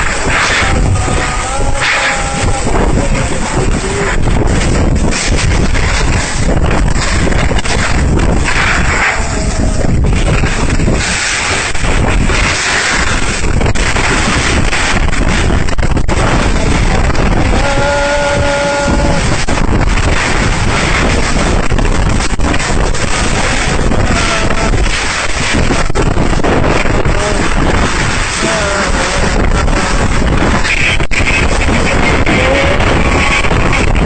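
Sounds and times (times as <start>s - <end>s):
storm wind buffeting microphone: 0.0s - 34.0s.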